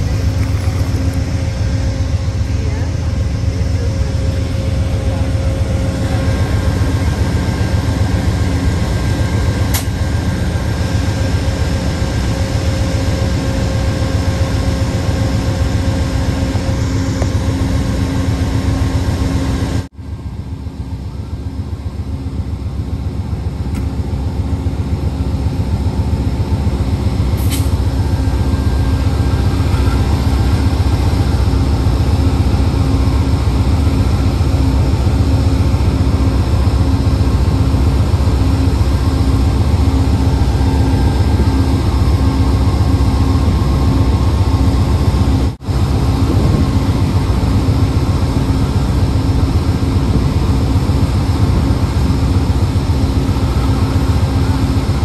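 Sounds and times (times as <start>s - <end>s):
diesel locomotives idling: 0.0s - 55.0s.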